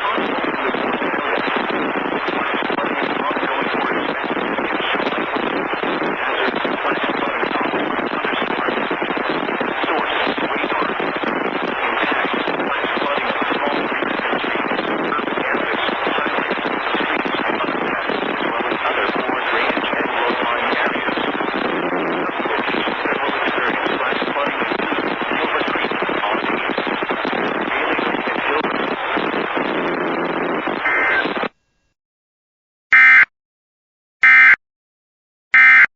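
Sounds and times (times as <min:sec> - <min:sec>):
radio static hiss: 0:00.0 - 0:31.6, 0:32.9 - 0:33.3, 0:34.2 - 0:34.6, 0:35.6 - 0:35.9.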